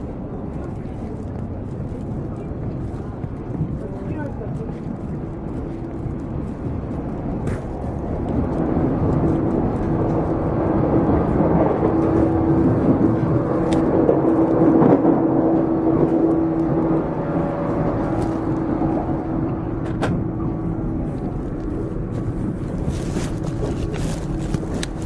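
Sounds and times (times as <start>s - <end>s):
electric train humming: 0.0s - 25.0s
train wheels rumbling on rails: 0.0s - 25.0s.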